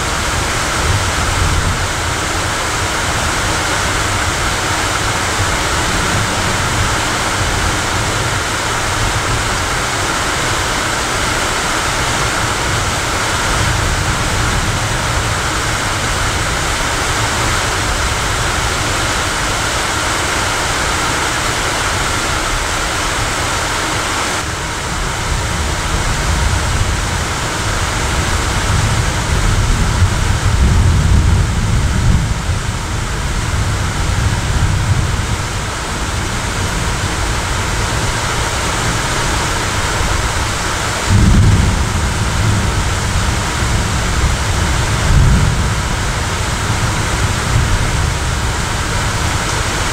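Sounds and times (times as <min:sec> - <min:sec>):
heavy rain hissing: 0:00.0 - 0:49.9
thunder rumbling: 0:00.0 - 0:49.9.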